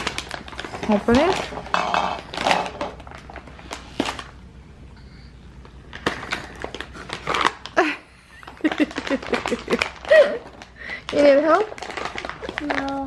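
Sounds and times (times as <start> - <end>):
plastic bag crinkling: 0.0 - 4.4, 5.6 - 13.0.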